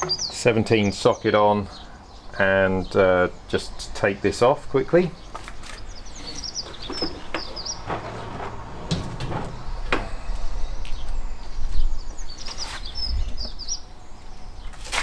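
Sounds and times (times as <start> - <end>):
bird chirping: 0.0 - 14.8.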